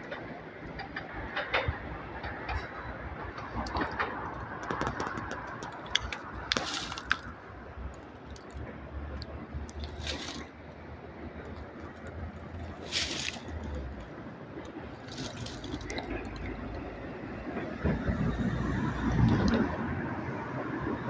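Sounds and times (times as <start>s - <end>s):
diesel train engine hum: 0.0s - 21.0s.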